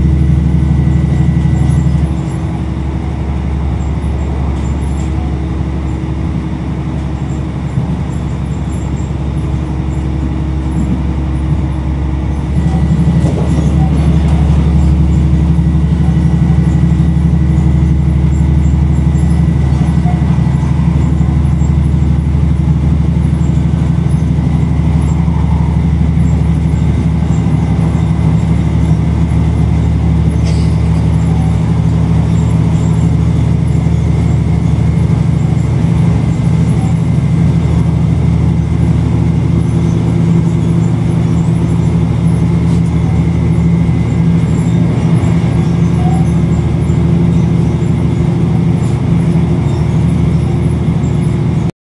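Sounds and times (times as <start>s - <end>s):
vehicle engine and road drone: 0.0s - 51.7s.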